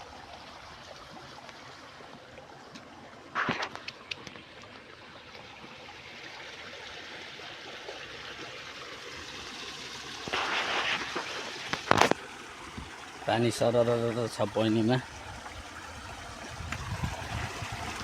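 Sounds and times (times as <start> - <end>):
water flowing in a channel: 0.0 - 18.0.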